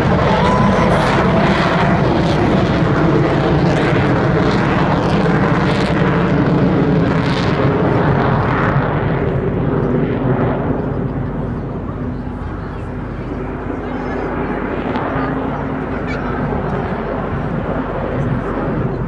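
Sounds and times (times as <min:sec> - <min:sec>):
jet aircraft engines roaring: 0:00.0 - 0:19.0.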